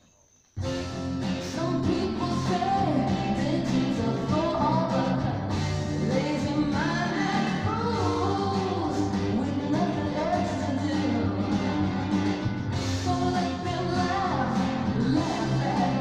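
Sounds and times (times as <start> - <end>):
rock song with singing: 0.6 - 16.0.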